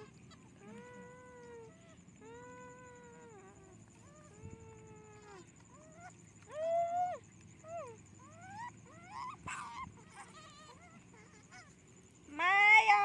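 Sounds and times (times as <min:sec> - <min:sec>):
monkey whining calls: 0:00.0 - 0:11.9.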